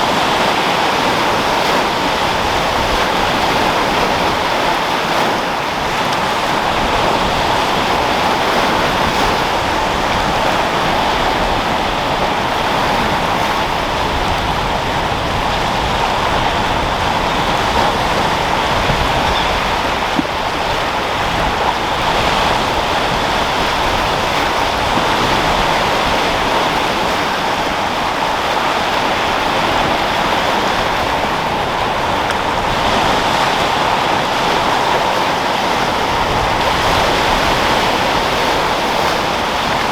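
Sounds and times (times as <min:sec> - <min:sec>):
surf rushing: 0:00.0 - 0:39.9
wind: 0:00.0 - 0:39.9.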